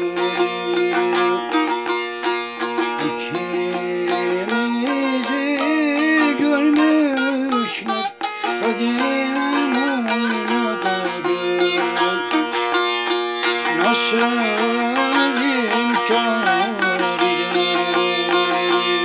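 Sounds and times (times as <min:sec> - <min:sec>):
plucked string folk music: 0:00.0 - 0:19.0
wavering held melody line: 0:00.0 - 0:19.0.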